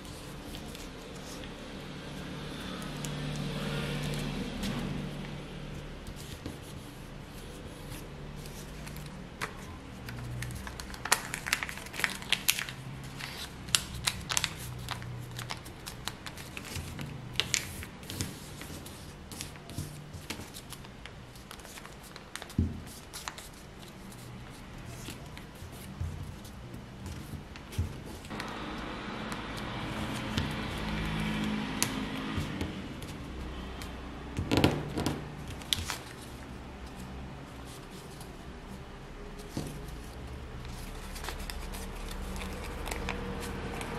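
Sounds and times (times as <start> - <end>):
paper crinkling and crackling: 0.0 - 43.9.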